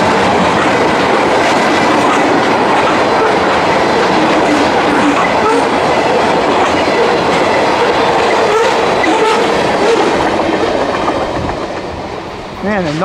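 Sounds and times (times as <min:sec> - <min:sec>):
freight train cars clattering: 0:00.0 - 0:13.0.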